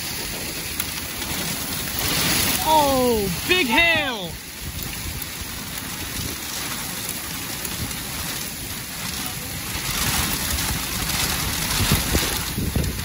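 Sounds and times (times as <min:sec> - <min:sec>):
heavy rain and hail: 0:00.0 - 0:13.0
strong wind: 0:00.0 - 0:13.0.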